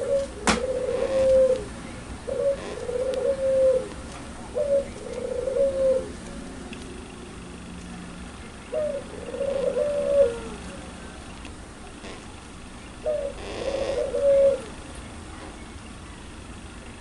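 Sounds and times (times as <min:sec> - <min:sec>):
dove cooing: 0:00.0 - 0:06.5, 0:07.5 - 0:14.9.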